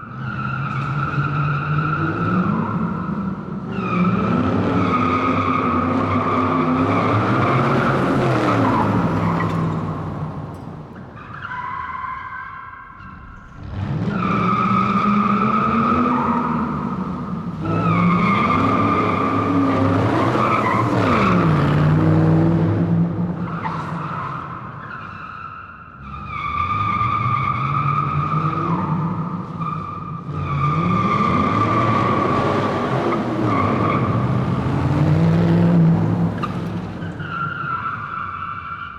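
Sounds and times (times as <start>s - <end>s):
car tyres squealing on floor: 0.0s - 22.0s, 23.3s - 38.9s.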